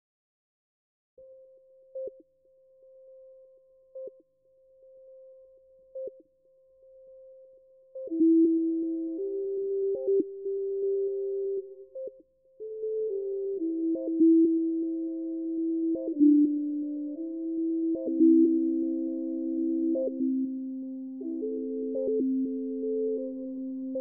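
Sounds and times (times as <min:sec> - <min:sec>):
steady sine-like tone: 0:01.2 - 0:24.0.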